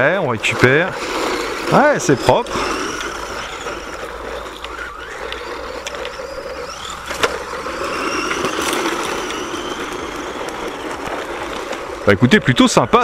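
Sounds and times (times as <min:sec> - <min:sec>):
rc car motor whine on gravel: 0:00.0 - 0:13.0.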